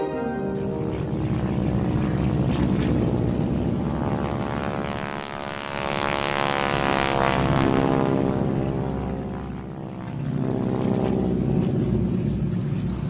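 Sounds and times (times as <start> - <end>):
mechanical drone with rapid flutter: 0.6 - 13.0.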